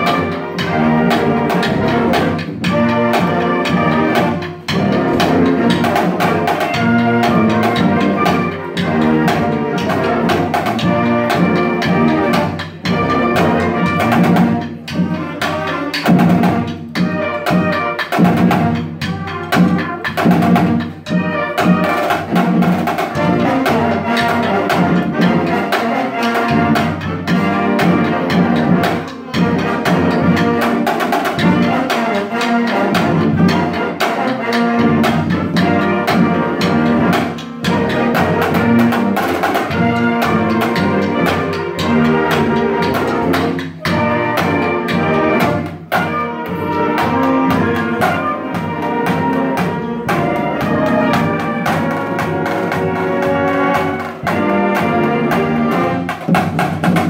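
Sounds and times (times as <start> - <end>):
bass and snare drum strokes: 0.0 - 57.0
marching band playing: 0.0 - 57.0.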